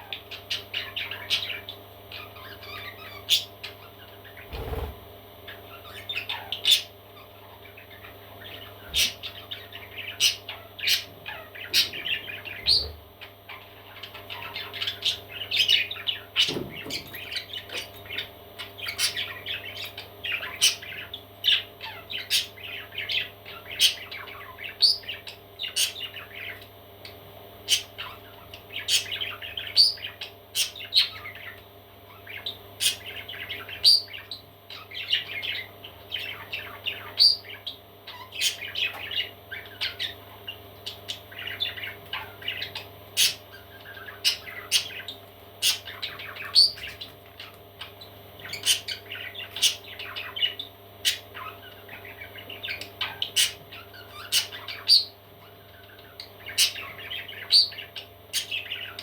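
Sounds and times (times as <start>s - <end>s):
parrot chicks chirping: 0.0s - 59.0s
parrot chicks squawking: 0.0s - 59.0s.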